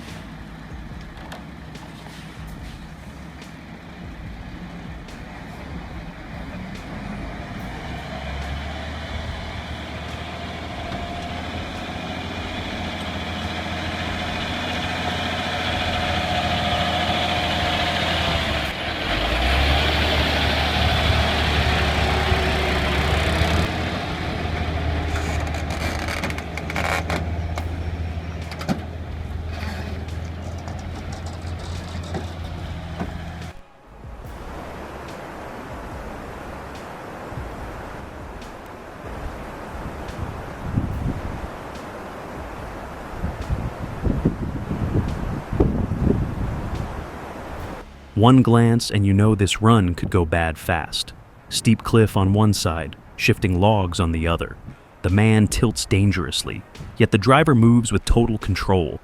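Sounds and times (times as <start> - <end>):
truck diesel engine running: 0.0 - 48.8.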